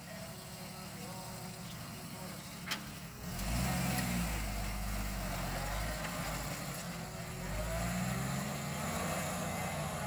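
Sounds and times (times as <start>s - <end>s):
car engine at low revs: 0.0s - 10.0s.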